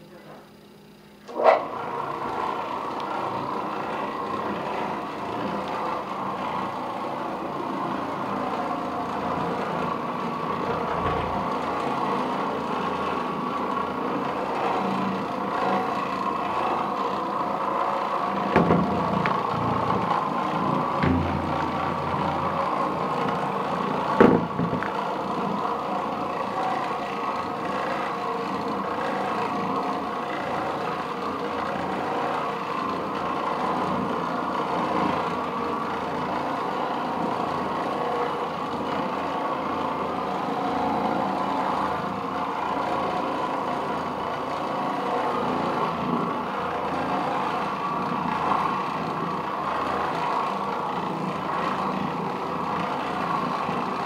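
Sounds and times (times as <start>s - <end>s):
floor machine scrubbing carpet: 1.3s - 54.0s.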